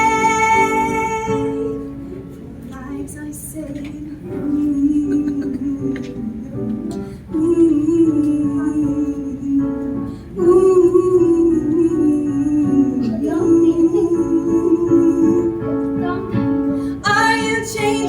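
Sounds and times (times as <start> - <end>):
live song with held melody notes: 0.0 - 18.0.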